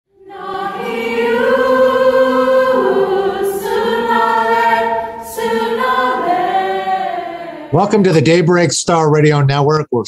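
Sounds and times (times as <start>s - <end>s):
choir singing held chords: 0.1s - 8.5s.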